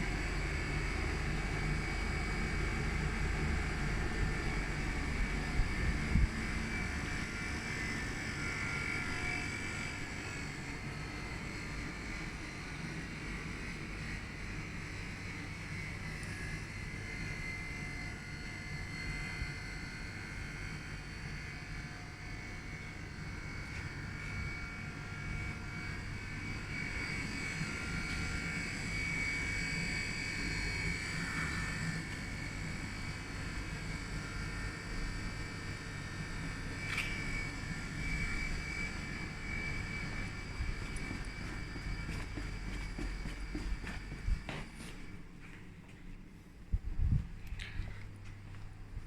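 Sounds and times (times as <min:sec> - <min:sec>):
machinery humming and whining: 0:00.0 - 0:49.0.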